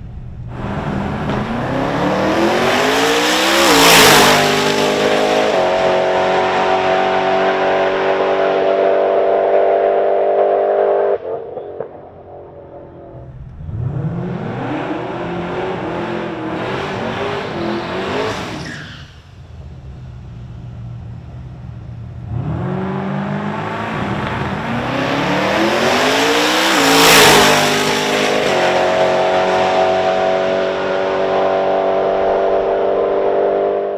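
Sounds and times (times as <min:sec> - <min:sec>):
drag car engine revving: 0:00.4 - 0:33.9.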